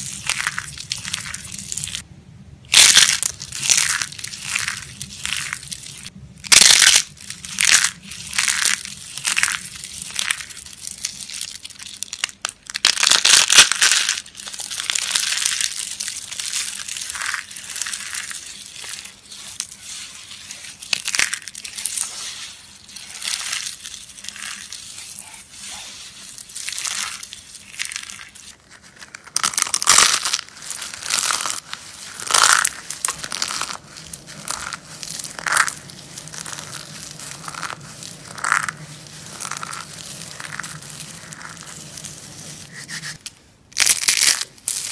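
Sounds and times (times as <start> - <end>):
dry soap crunching: 0.0 - 2.0, 2.7 - 44.9.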